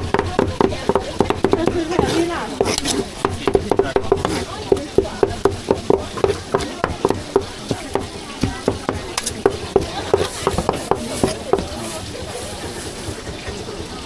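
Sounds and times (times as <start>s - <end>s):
cleaver chopping meat on wood: 0.0s - 14.0s.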